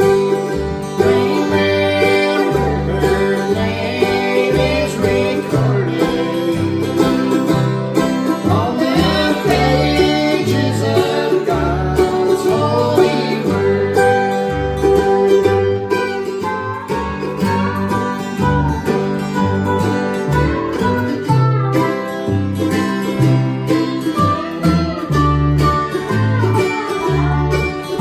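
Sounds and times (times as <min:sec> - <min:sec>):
bluegrass country music: 0:00.0 - 0:28.0.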